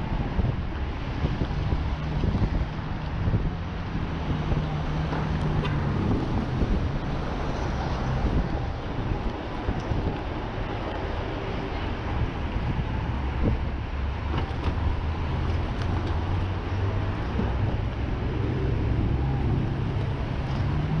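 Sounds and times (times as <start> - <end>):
city traffic hum: 0.0 - 21.0
low engine drone: 0.0 - 21.0
wind on microphone: 0.0 - 21.0.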